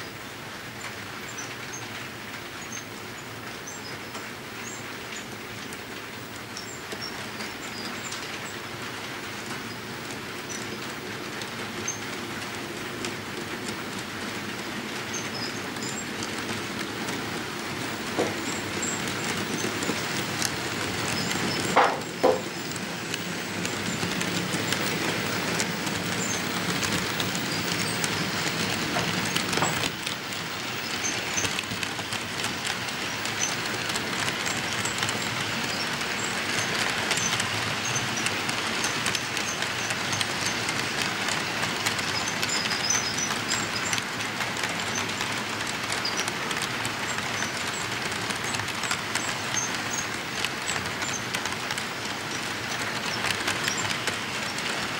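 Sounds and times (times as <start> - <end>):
model train wheels clattering: 3.6 - 54.9.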